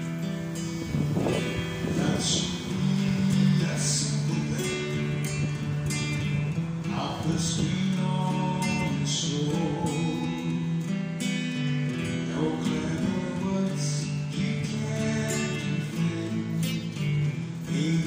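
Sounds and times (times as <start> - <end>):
acoustic guitar strumming: 0.0 - 18.0
man singing: 1.1 - 18.0.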